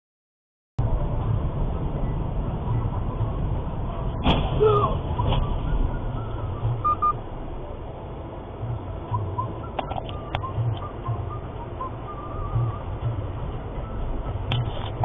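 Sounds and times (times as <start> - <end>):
moving car rumble: 0.8 - 15.0.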